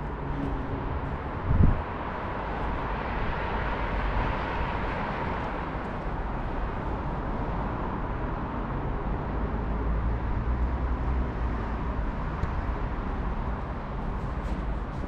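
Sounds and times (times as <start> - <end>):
road traffic rushing past: 0.0 - 15.0.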